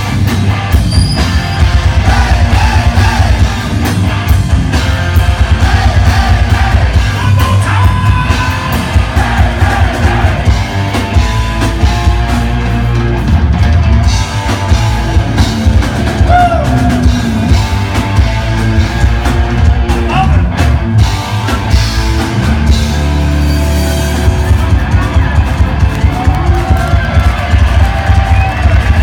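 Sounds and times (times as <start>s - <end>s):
drum kit pounding: 0.0s - 29.0s
rock band playing loud: 0.0s - 29.0s.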